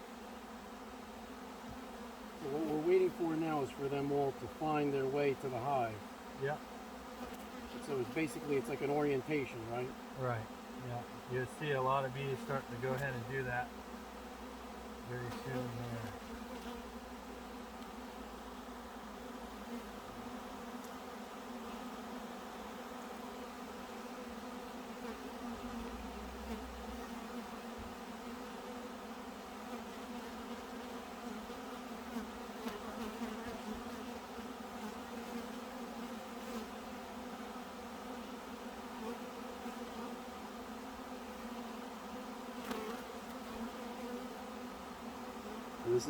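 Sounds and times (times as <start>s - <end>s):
honeybees buzzing: 0.0s - 46.0s.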